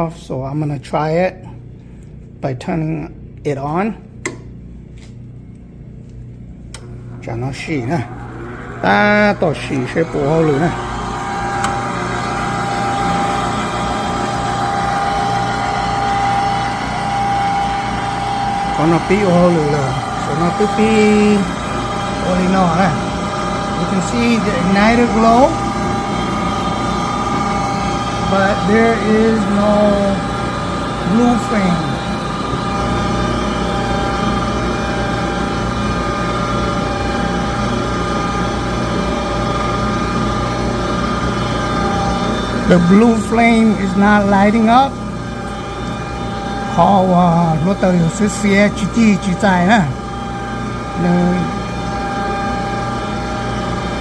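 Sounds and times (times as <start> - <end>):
furnace motor hum: 0.0 - 54.0
high steady whine: 5.8 - 54.0.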